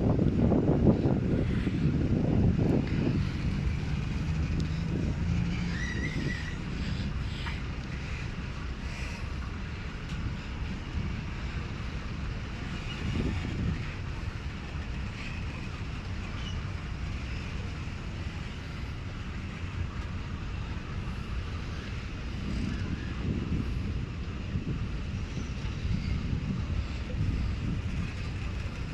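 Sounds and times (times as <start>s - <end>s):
train rumbling past: 0.0s - 28.9s.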